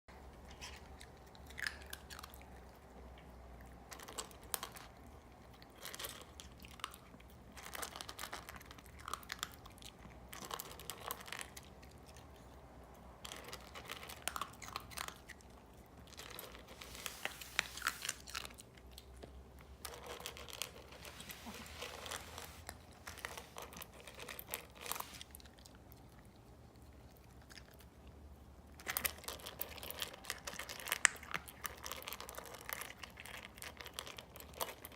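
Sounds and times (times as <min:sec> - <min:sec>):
dog crunching food: 0:00.3 - 0:34.9.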